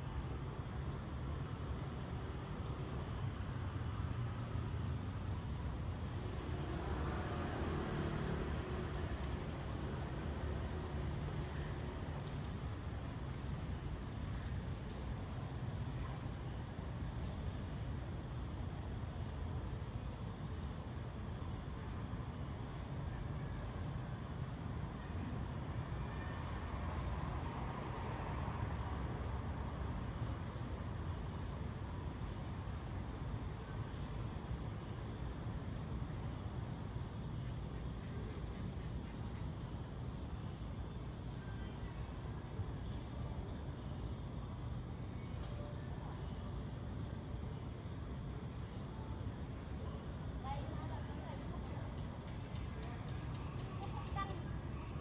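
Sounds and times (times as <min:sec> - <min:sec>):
insects chirping: 0:00.3 - 0:55.0.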